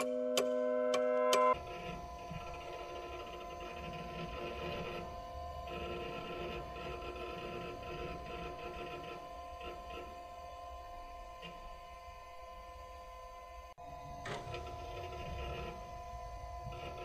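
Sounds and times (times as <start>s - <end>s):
electronic drone of held tones: 0.0s - 17.0s.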